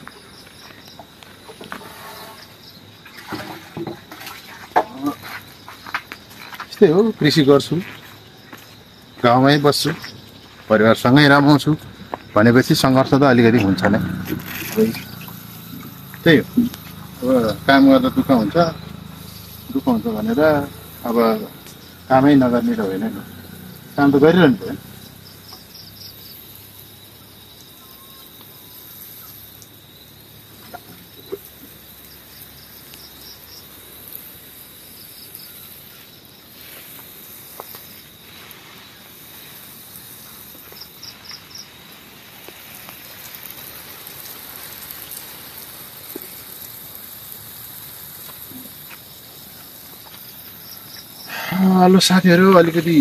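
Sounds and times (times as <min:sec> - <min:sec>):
high-pitched insect drone: 0:00.0 - 0:53.0
rapid cricket chirps: 0:00.0 - 0:53.0.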